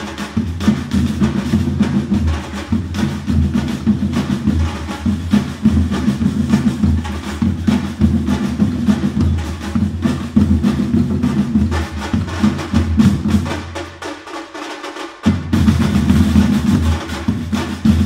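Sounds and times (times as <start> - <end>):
bass drums: 0.0 - 13.7, 15.3 - 18.0
small drums striking: 0.0 - 18.0.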